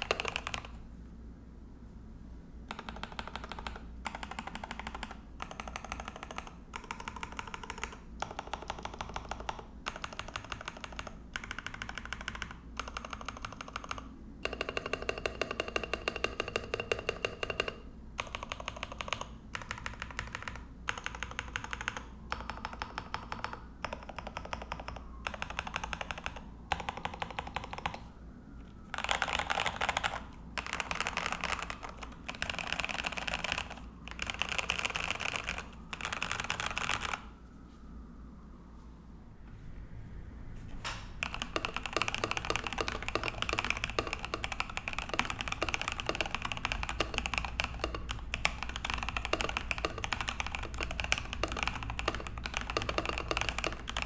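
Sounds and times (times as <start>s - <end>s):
mechanical keyboard typing: 0.0s - 0.8s, 2.7s - 28.1s, 28.7s - 37.3s, 41.2s - 54.0s.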